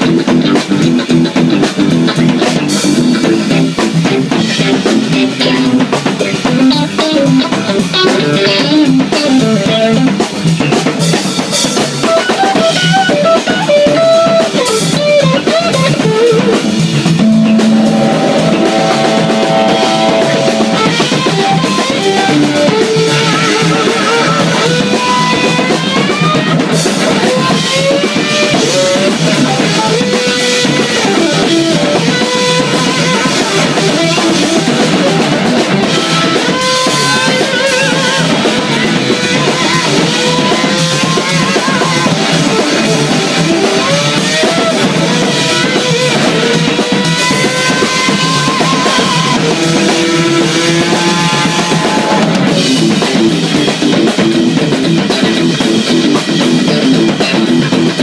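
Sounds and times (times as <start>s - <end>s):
busy drumming: 0.0s - 58.0s
electric bass: 0.0s - 58.0s
electric guitar lead: 0.0s - 58.0s.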